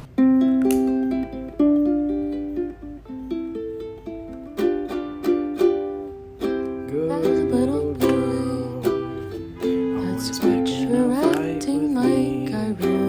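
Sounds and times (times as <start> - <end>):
plucked string instrument tune: 0.0 - 13.0.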